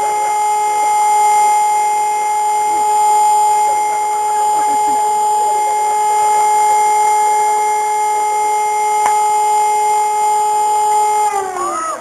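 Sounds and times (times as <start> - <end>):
fire engine siren: 0.0 - 12.0.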